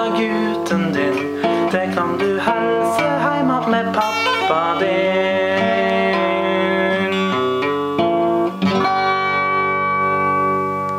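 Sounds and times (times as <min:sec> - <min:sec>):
acoustic guitar strumming chords: 0:00.0 - 0:10.9.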